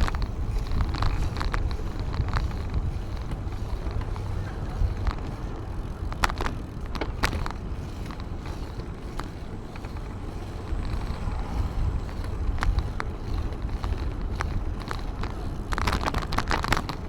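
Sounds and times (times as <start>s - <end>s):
bicycle clicks and rattles: 0.0s - 17.0s
wind and road rumble: 0.0s - 17.0s.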